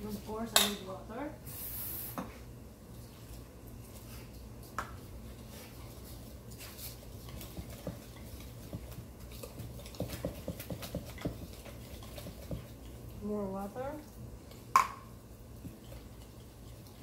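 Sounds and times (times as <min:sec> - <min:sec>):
low steady hum: 0:00.0 - 0:17.0
batter mixed by hand in a bowl: 0:02.3 - 0:17.0.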